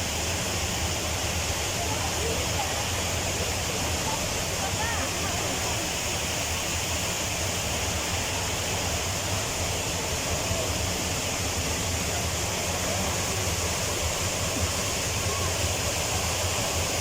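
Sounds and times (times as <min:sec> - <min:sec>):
waterfall splashing: 0:00.0 - 0:17.0.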